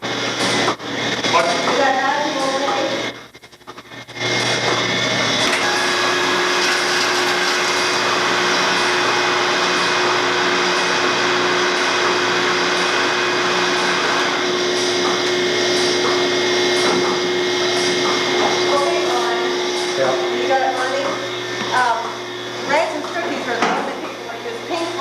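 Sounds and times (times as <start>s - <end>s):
milking machine hiss and hum: 0.0s - 25.0s.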